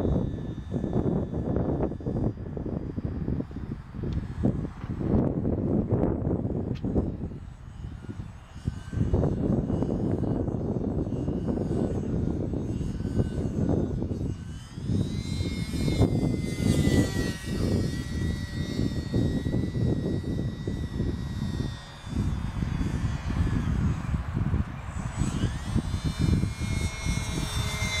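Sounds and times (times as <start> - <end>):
model airplane motor whining: 0.0 - 28.0.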